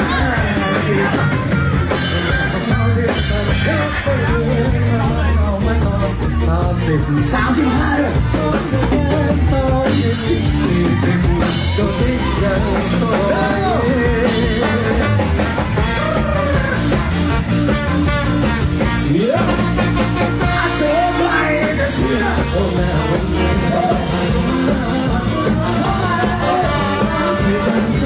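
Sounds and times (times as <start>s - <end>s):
pop music with man singing: 0.0s - 28.0s.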